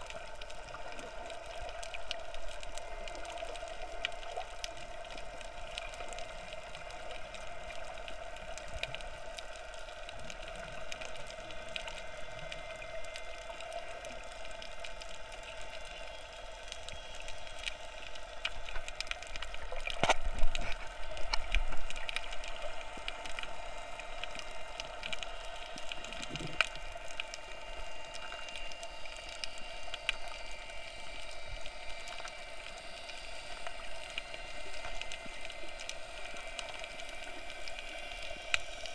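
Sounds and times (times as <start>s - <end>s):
faint crackling clicks: 0.0s - 38.9s
muffled underwater hum: 0.0s - 38.9s.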